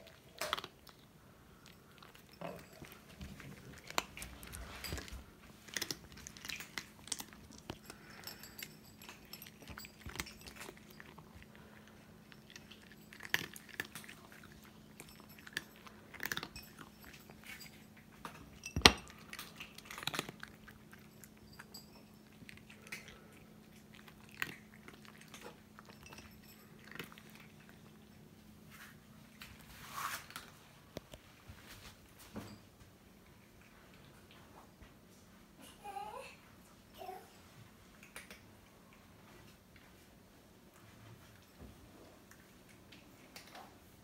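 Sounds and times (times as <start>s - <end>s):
cats crunching dry kibble: 0.0s - 32.0s, 40.8s - 44.0s
faint steady hum: 0.0s - 44.0s.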